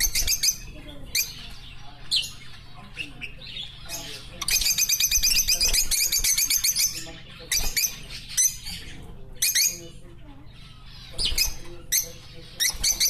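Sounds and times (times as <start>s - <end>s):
cage birds chirping and trilling: 0.0s - 13.0s.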